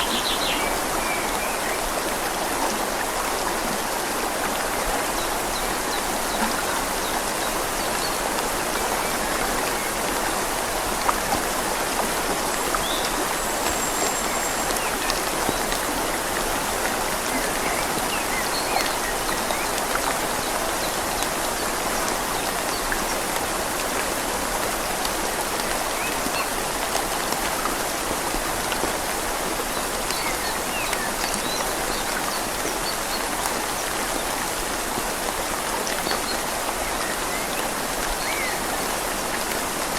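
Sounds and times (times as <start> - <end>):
rain falling on leaves: 0.0 - 39.9
river flowing: 0.0 - 39.9.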